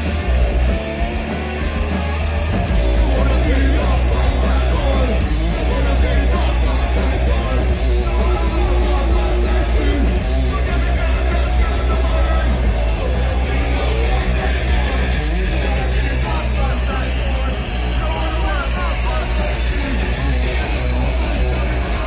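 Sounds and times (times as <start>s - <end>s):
live punk band playing: 0.0s - 22.0s
singer's vocals: 2.8s - 22.0s.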